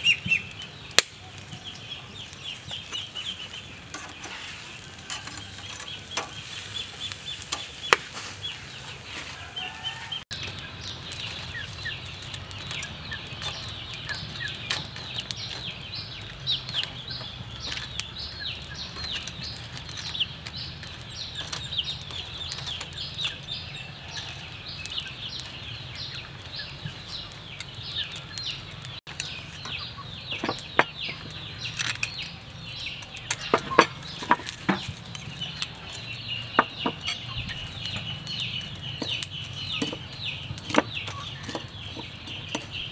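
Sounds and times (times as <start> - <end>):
birds chirping rapidly: 0.0 - 42.9.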